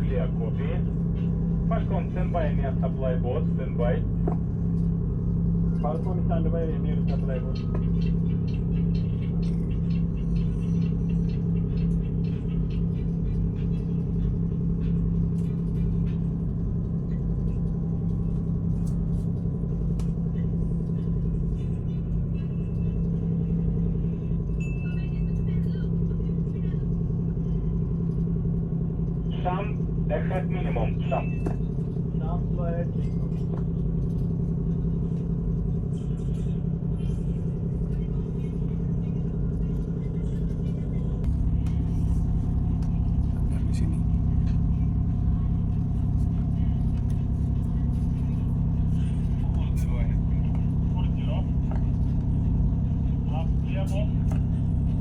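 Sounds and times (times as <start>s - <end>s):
ship diesel engine droning: 0.0s - 55.0s.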